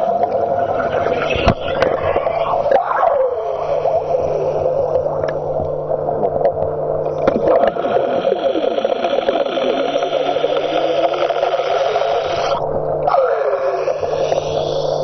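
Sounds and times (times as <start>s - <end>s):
air bubbles gurgling: 0.0s - 12.6s
steady low hum: 0.0s - 15.0s.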